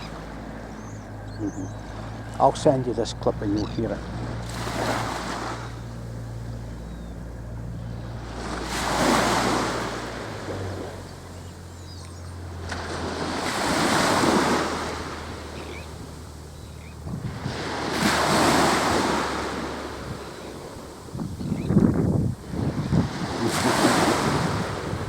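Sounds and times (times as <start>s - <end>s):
sea waves surging: 0.0s - 25.0s
wind buffeting microphone: 0.0s - 25.0s.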